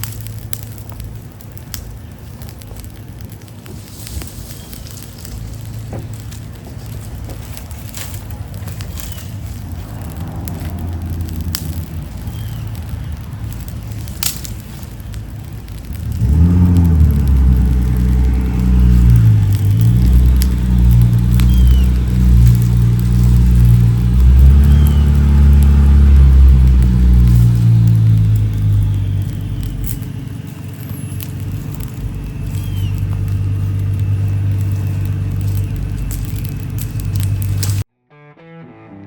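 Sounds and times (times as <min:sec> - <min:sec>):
motor engine running: 0:00.0 - 0:37.8
sharp cracks: 0:00.0 - 0:37.9.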